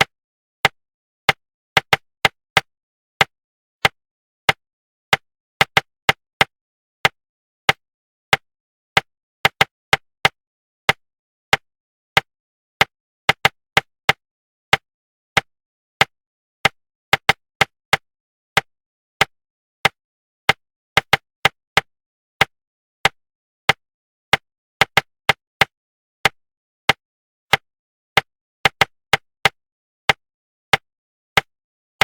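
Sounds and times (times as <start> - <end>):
sharp rhythmic taps: 0.0 - 8.4, 9.0 - 11.6, 12.2 - 14.8, 15.4 - 18.0, 18.6 - 27.6, 28.2 - 30.8.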